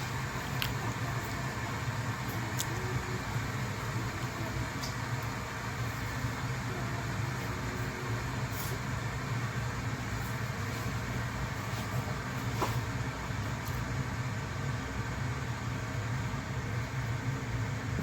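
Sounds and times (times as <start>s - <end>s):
electric kettle humming and hissing: 0.0s - 18.0s.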